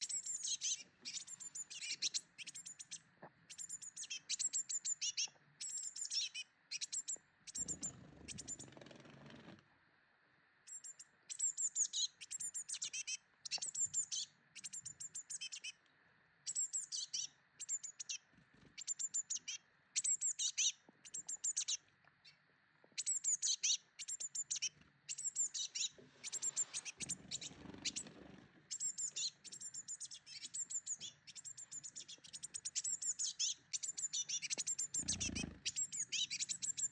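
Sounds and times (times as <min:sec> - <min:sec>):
small birds twittering: 0:00.0 - 0:09.5, 0:10.6 - 0:36.9.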